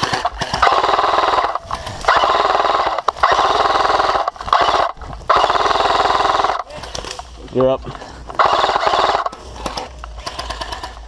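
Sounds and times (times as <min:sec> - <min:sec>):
airsoft rifle full-auto bursts: 0:00.0 - 0:07.1, 0:08.3 - 0:11.0.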